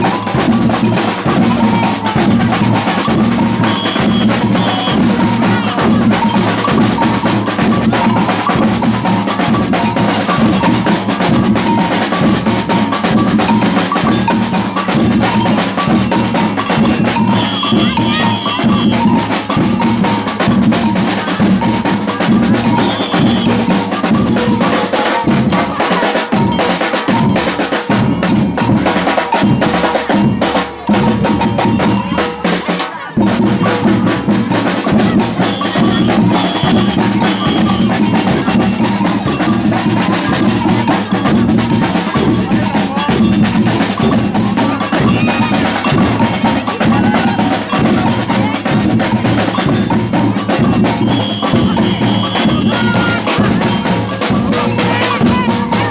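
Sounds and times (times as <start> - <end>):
bell and block strikes: 0.0 - 55.9
snare drums: 0.0 - 55.9.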